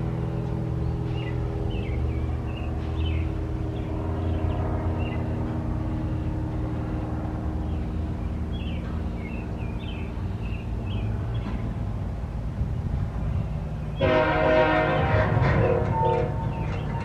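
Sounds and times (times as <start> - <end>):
diesel locomotive droning: 0.0 - 17.0
birds chirping: 0.1 - 17.0.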